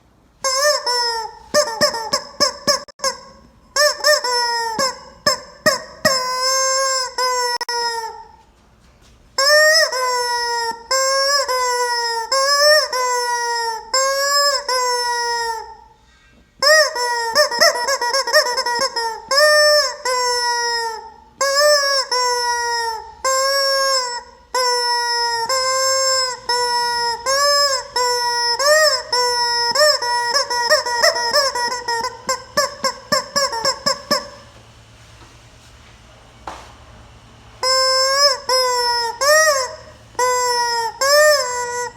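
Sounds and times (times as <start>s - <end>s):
rubber chicken toy squawking: 0.4s - 8.4s, 9.4s - 16.0s, 16.6s - 34.5s, 37.6s - 41.9s.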